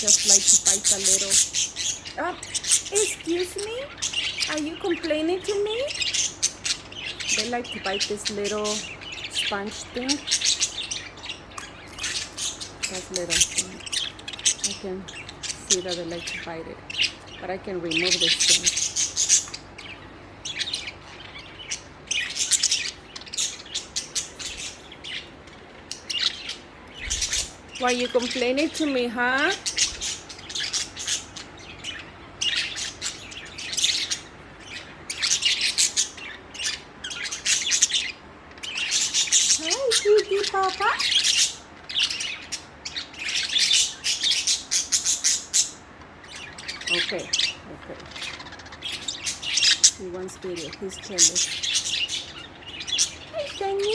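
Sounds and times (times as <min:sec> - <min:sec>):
budgerigars chirping: 0:00.0 - 0:53.9.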